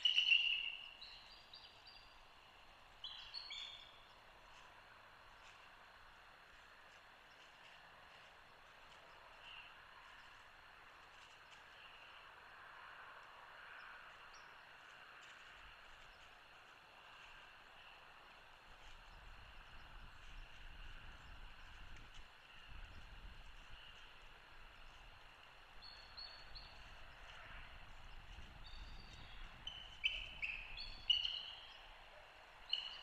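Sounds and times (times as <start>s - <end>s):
faint outdoor ambience: 0.0s - 33.0s.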